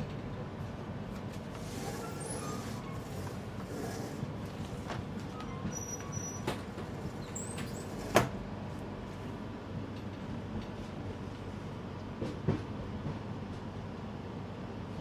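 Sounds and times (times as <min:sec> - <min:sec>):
train coach rumble: 0:00.0 - 0:15.0.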